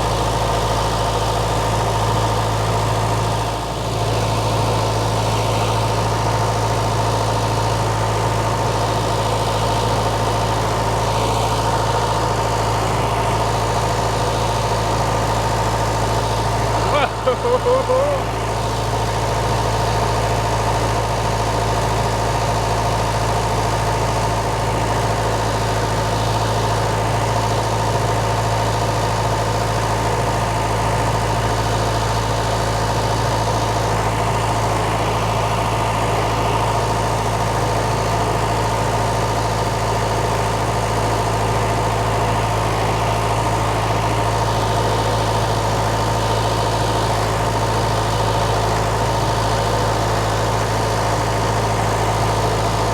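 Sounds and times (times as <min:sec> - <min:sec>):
diesel engine running steadily: 0:00.0 - 0:52.9.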